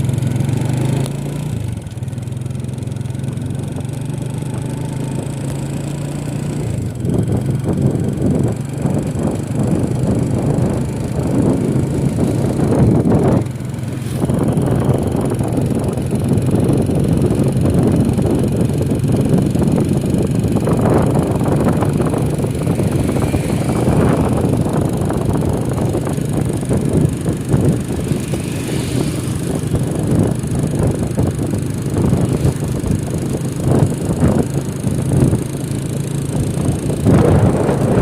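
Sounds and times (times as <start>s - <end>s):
vehicle engine running: 0.0s - 38.0s
wind buffeting microphone: 3.6s - 38.0s.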